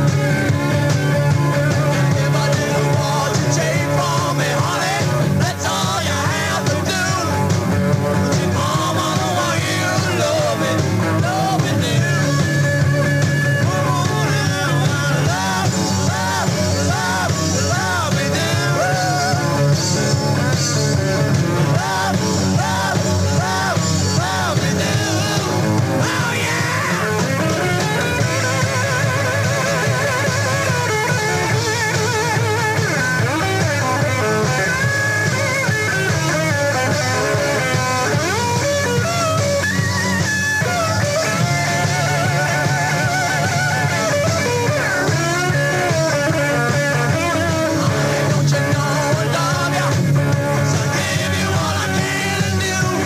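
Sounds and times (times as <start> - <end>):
lead electric guitar solo: 0.0 - 3.6, 6.5 - 53.0
bass guitar: 0.0 - 53.0
drums: 0.0 - 53.0.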